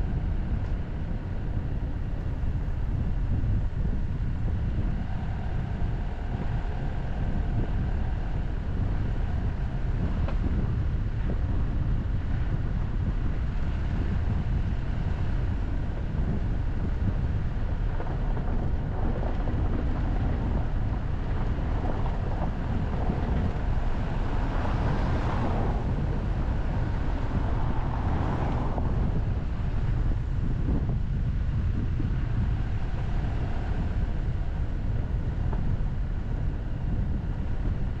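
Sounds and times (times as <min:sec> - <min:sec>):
car road noise rumble: 0:00.0 - 0:38.0
wind buffeting microphone: 0:00.0 - 0:38.0.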